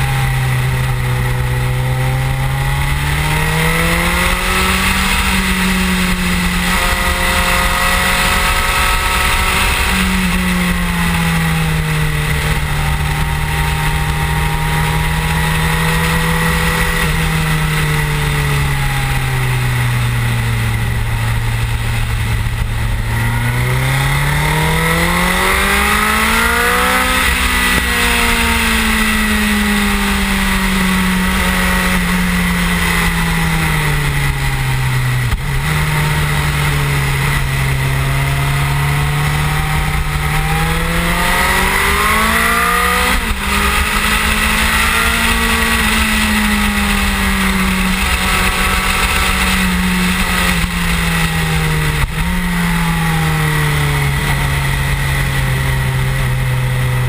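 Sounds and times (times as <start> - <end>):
heavy wind noise: 0.0 - 57.0
motorcycle engine at speed: 0.0 - 57.0.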